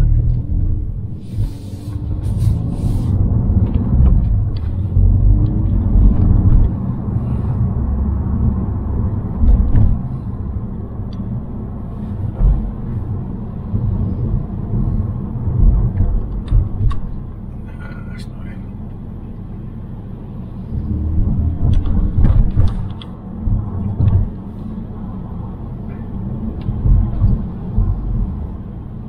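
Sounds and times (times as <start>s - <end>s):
car engine rumble: 0.0s - 29.0s.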